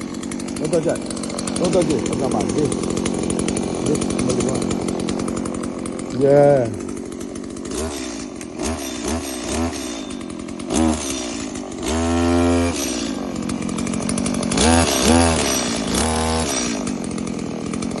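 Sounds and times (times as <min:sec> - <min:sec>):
chainsaw revving: 0:00.0 - 0:18.0.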